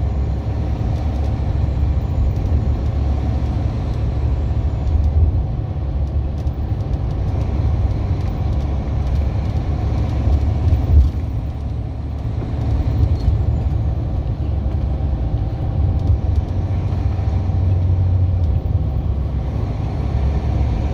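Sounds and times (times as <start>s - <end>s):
road and engine rumble: 0.0s - 20.9s.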